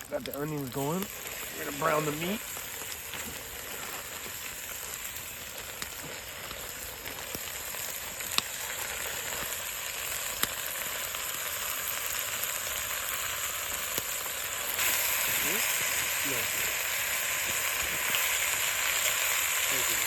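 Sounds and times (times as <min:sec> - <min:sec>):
meat and onions sizzling: 0:00.0 - 0:20.0
sharp pops of frying: 0:00.0 - 0:20.0.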